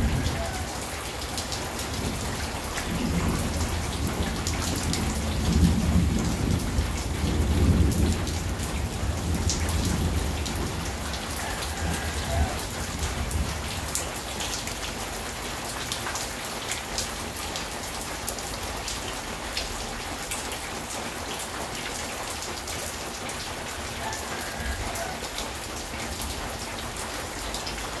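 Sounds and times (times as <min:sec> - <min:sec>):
raindrops ticking: 0:00.0 - 0:28.0
steady rain falling: 0:00.0 - 0:28.0.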